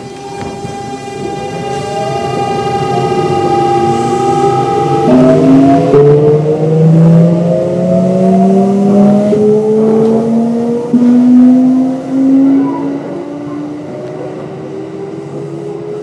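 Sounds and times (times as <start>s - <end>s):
electric train inverter whining: 0.0s - 16.0s.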